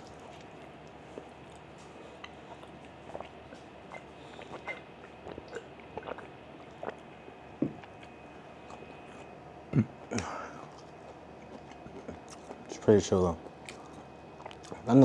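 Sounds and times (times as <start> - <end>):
person chewing food: 0.0 - 9.4, 10.2 - 12.7, 13.4 - 14.9.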